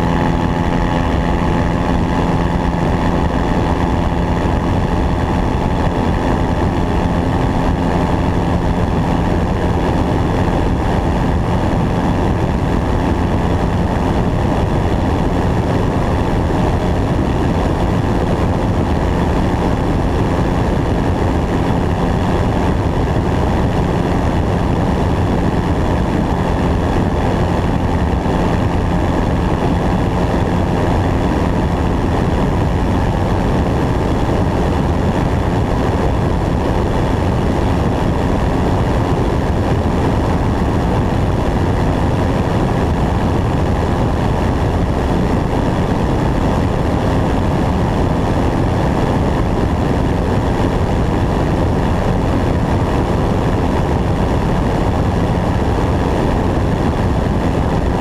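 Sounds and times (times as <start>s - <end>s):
propeller airplane engine drone: 0.0s - 58.0s.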